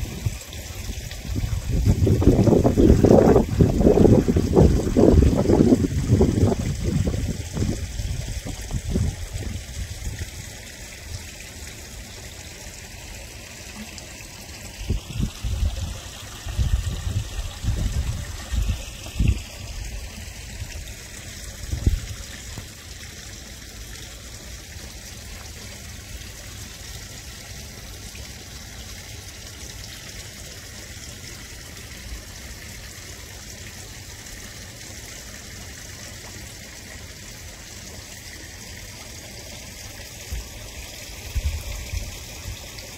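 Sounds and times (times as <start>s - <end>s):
pond water trickling: 0.0s - 42.9s.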